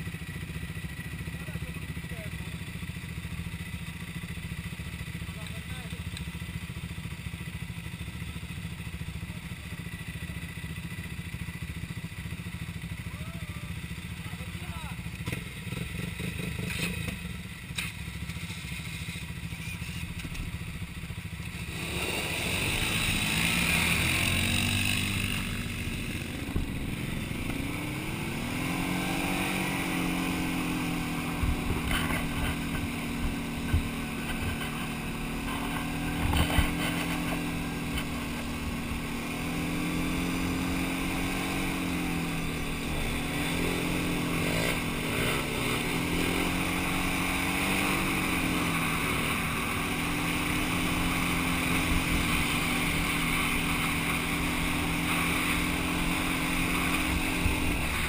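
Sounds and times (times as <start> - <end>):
quad bike engine: 0.0 - 58.0.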